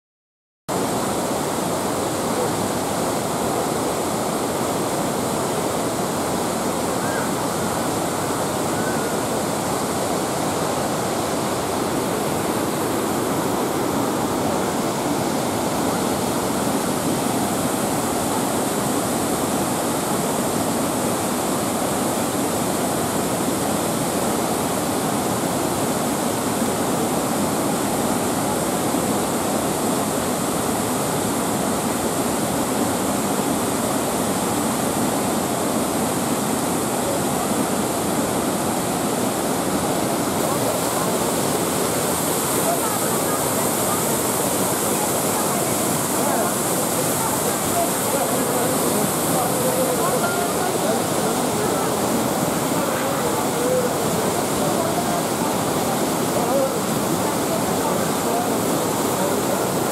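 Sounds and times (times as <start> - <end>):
roar of rushing water: 0.7 - 59.9.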